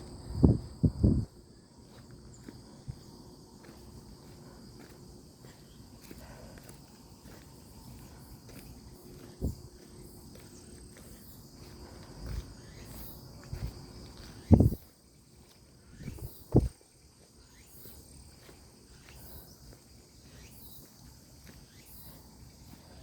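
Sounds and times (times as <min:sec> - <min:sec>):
high-pitched insect trill: 0:00.0 - 0:23.0.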